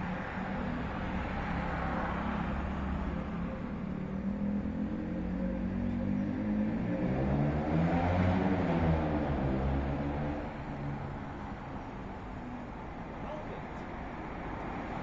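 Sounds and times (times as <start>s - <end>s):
cars passing: 0.0s - 15.0s
vehicle engine: 0.0s - 15.0s.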